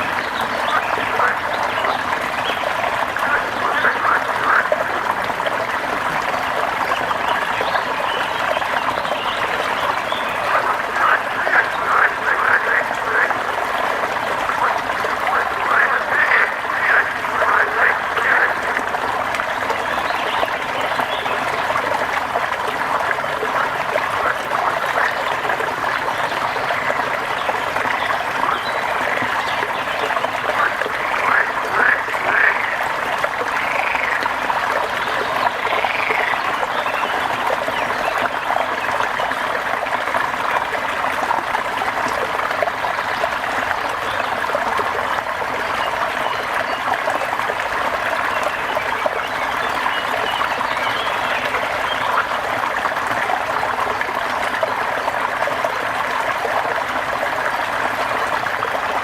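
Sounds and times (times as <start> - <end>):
frogs croaking: 0.0 - 59.0.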